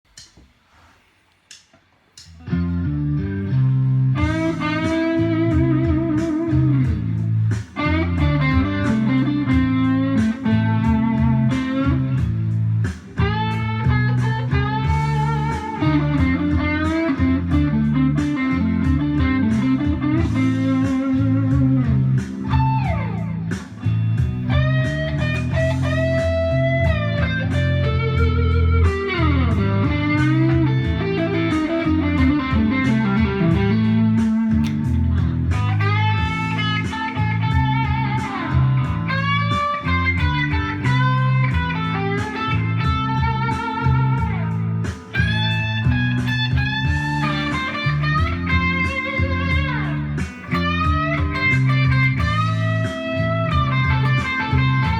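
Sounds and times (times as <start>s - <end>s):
electric guitar blues lead: 2.3s - 54.9s.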